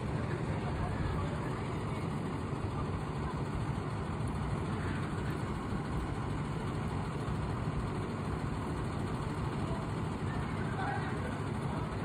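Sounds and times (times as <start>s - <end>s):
diesel engine idling: 0.0s - 12.0s
engine cooling fan: 0.0s - 12.0s.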